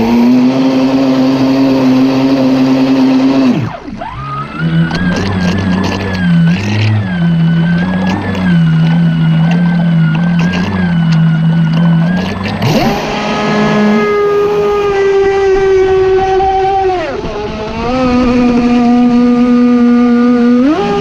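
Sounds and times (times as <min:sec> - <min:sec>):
electric motor whining: 0:00.0 - 0:21.0
water rushing along hull: 0:00.0 - 0:21.0.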